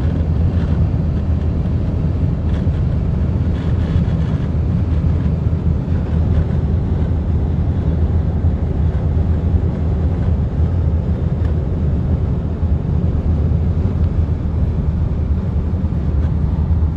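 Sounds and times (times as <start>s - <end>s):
car wind and road noise: 0.0s - 16.9s.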